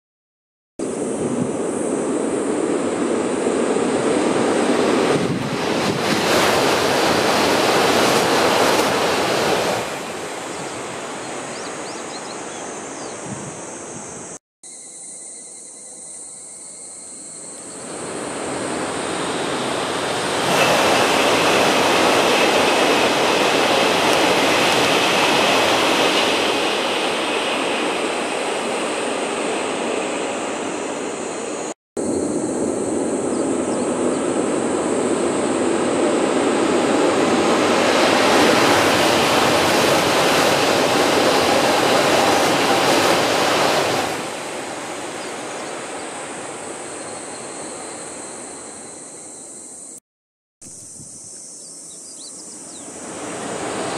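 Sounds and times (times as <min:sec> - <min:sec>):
wind gusting on microphone: 0:00.8 - 0:14.4, 0:17.8 - 0:47.0, 0:52.7 - 0:53.9.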